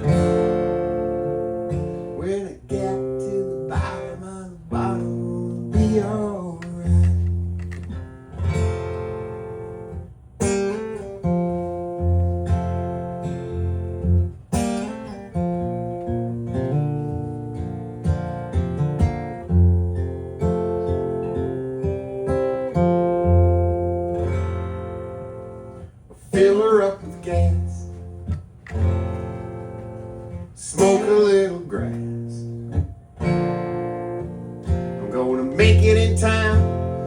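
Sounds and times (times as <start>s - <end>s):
acoustic guitar strummed chords: 0.0s - 37.0s.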